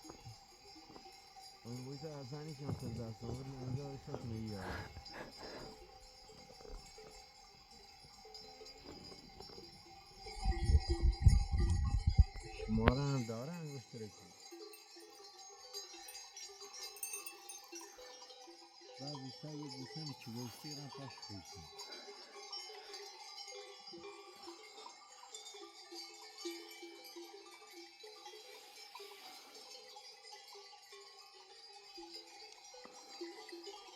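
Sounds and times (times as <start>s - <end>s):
sheep bells clinking: 0.0s - 33.9s.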